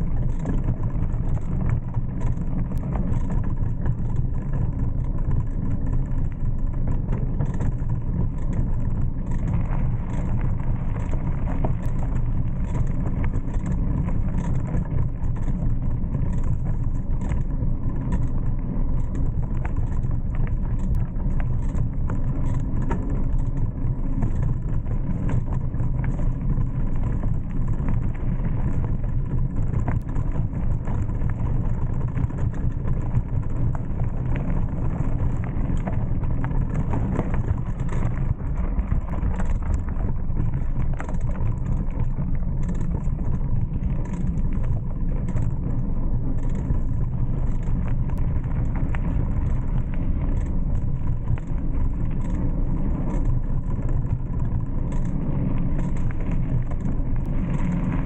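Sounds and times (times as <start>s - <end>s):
bike clicks and rattles: 0.0s - 58.0s
wind and tyre rumble: 0.0s - 58.0s.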